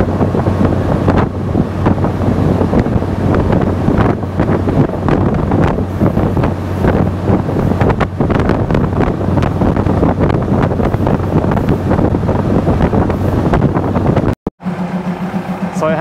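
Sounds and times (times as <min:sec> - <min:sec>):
train rumbling along track: 0:00.0 - 0:16.0
wind buffeting microphone: 0:00.0 - 0:16.0.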